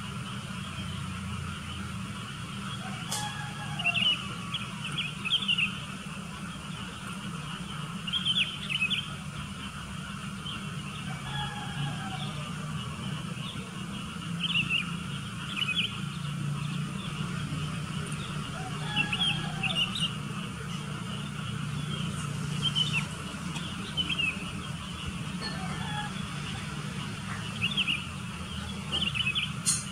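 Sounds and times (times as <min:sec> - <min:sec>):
bulbuls chirping: 0:00.0 - 0:29.9.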